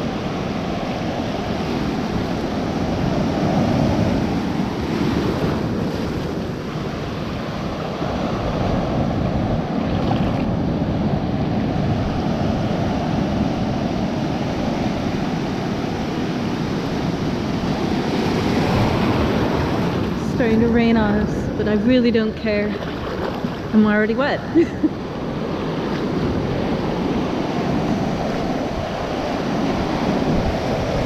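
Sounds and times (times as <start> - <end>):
ocean surf washing: 0.0 - 31.0
wind buffeting microphone: 0.0 - 31.0.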